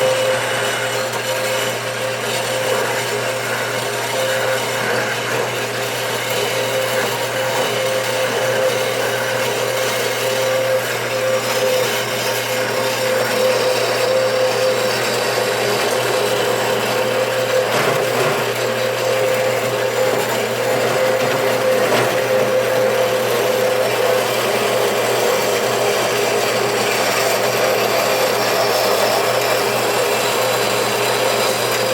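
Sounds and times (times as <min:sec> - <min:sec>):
band saw cutting brass: 0:00.0 - 0:31.9.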